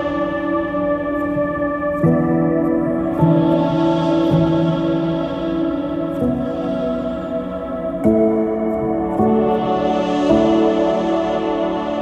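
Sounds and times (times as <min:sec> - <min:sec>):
background music of long notes: 0:00.0 - 0:12.0.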